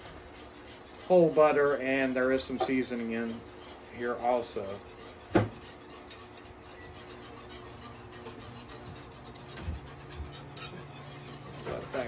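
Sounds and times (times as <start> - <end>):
metal whisk scraping a skillet: 0.0 - 12.0.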